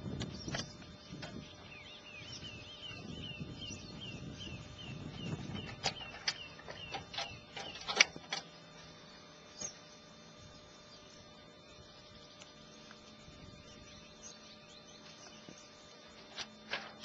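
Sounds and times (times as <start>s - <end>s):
bird chirping: 0.2s - 16.3s.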